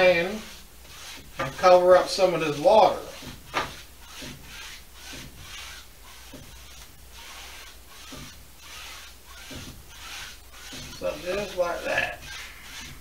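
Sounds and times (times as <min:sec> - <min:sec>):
paintbrush scrubbing on canvas: 0:00.0 - 0:13.0.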